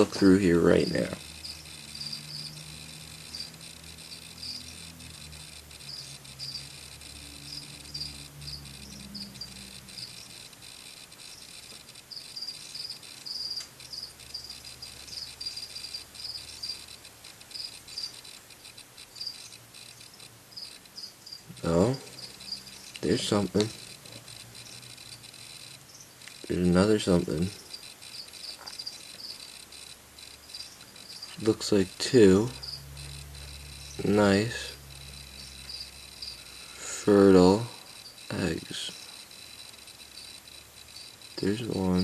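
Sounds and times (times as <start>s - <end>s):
crickets chirping: 0.0s - 42.0s
faint low hum: 0.0s - 42.0s.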